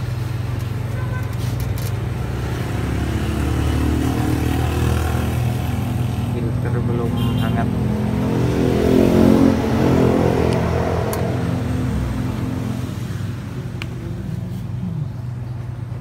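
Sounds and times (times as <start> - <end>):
vehicle passing by: 1.4 - 15.4.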